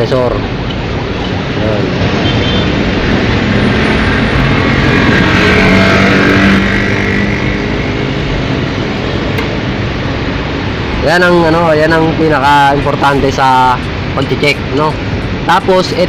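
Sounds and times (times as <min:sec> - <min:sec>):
vehicle passing: 0:00.0 - 0:15.5
road traffic noise: 0:00.0 - 0:16.0.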